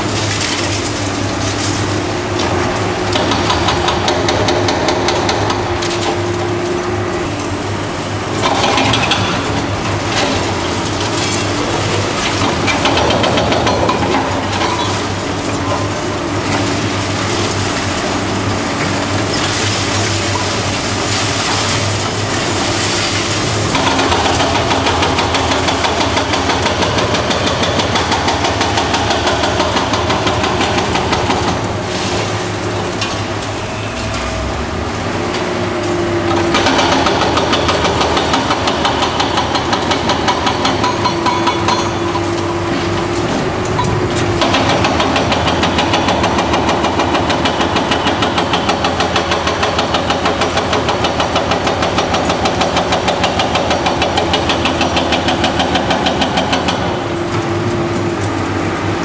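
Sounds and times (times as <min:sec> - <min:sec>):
hydraulic crusher on concrete: 0:00.0 - 0:07.6, 0:08.2 - 0:35.5, 0:36.2 - 0:59.0.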